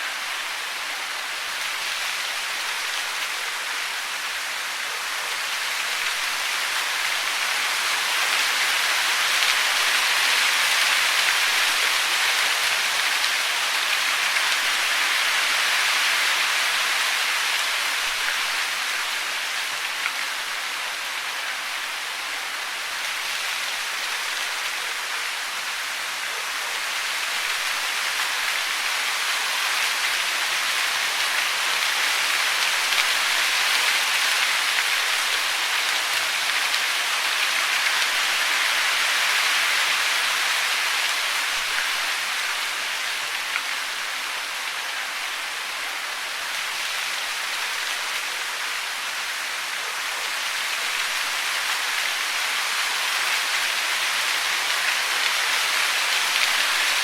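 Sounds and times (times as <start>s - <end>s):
hiss of falling water: 0.0s - 57.0s.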